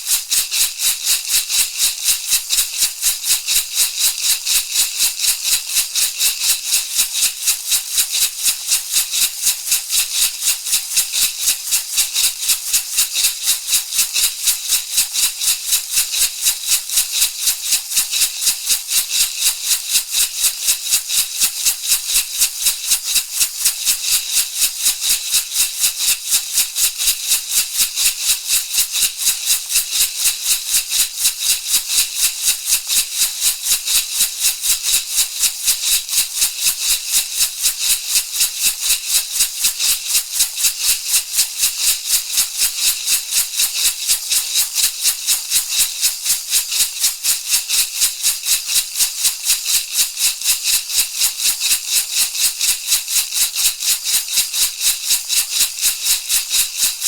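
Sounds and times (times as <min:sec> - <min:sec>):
rattle shaken in steady rhythm: 0:00.0 - 0:57.0.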